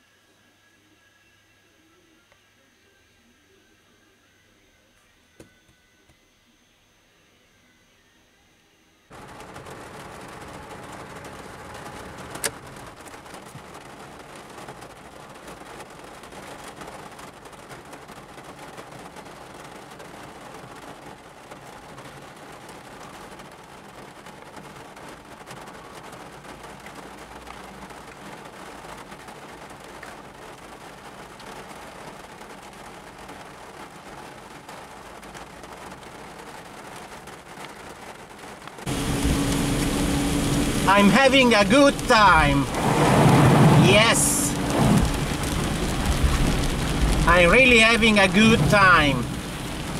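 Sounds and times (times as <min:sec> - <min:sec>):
heavy rain on car roof: 0:09.1 - 0:49.9.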